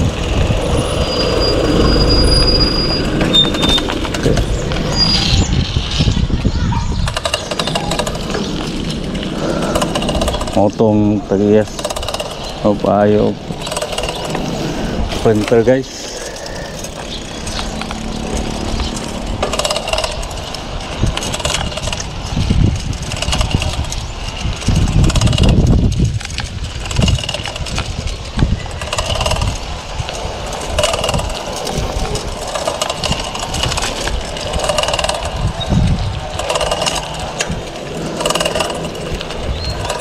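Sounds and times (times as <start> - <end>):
heavy low rumbling surges: 0.0 - 26.9, 27.7 - 40.0
bike rattling with clicks: 0.0 - 40.0
bike tyres rolling: 0.0 - 40.0.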